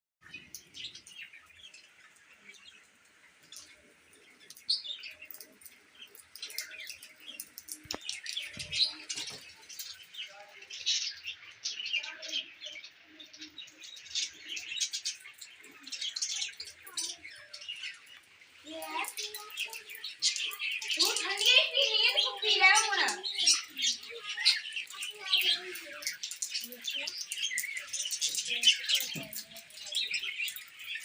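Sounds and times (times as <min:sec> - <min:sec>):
baby bird chirping: 0:04.6 - 0:13.5, 0:14.2 - 0:31.0.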